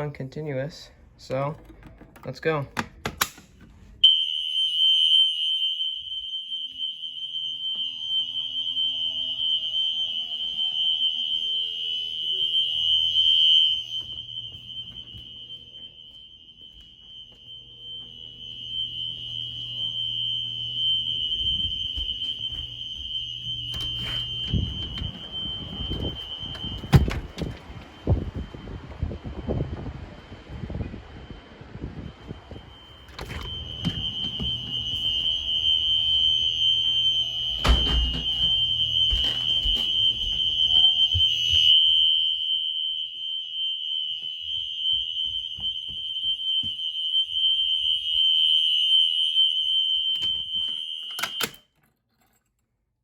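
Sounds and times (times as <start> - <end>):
fire alarm horn tone: 4.0 - 29.8, 31.3 - 51.6.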